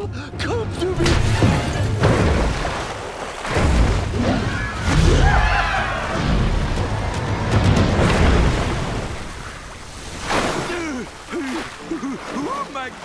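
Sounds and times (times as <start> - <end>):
dramatic music: 0.0 - 13.0.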